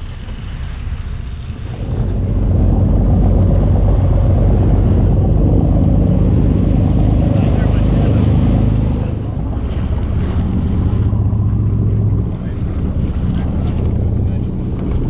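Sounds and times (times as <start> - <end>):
boat engine rumble: 0.0 - 15.0
water rushing along hull: 0.0 - 15.0
wind on microphone: 0.0 - 15.0.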